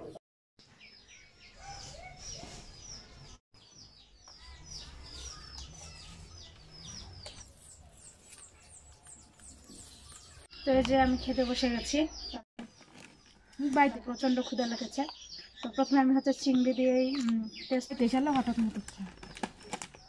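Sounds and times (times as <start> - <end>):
birds chirping faintly: 0.6 - 20.0.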